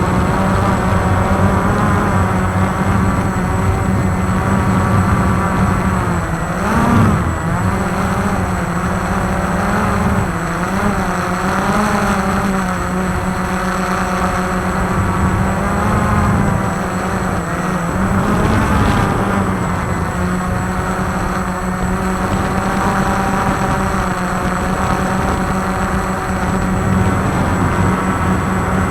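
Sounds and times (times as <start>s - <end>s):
quadcopter propellers whirring: 0.0s - 28.9s.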